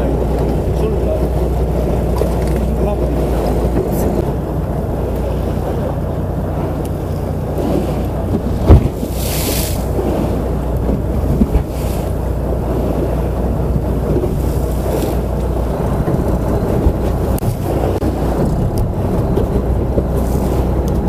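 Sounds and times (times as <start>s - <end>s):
boat engine humming: 0.0s - 21.0s
waves washing against hull: 0.0s - 21.0s
wind buffeting microphone: 0.0s - 21.0s.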